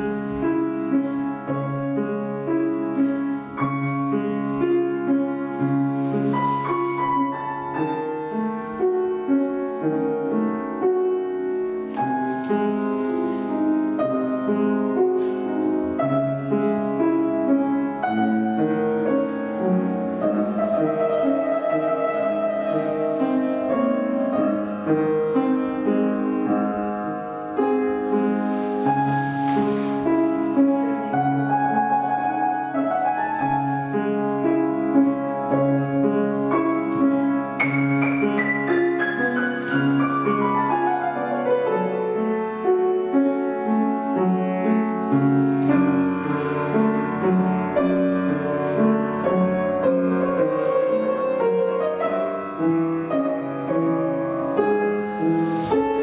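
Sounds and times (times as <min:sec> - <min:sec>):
piano playing: 0:00.0 - 0:56.0.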